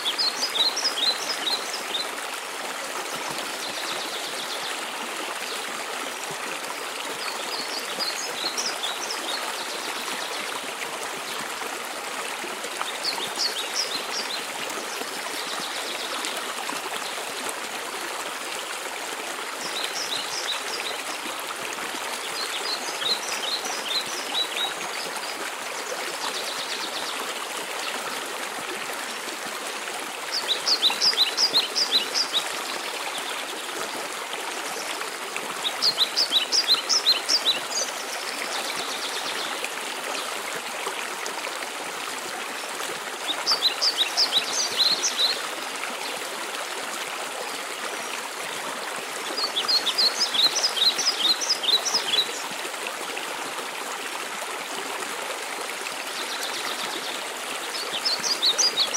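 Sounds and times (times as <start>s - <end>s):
waterfall and stream rushing: 0.0s - 58.9s.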